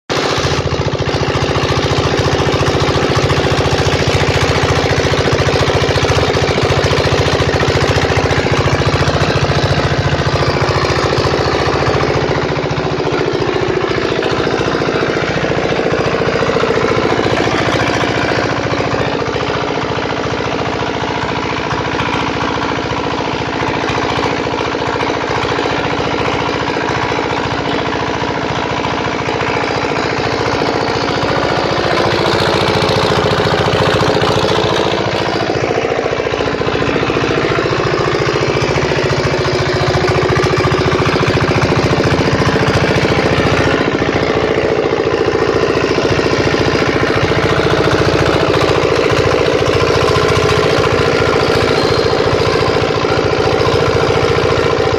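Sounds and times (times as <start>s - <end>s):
diesel generator engine running: 0.1s - 54.9s.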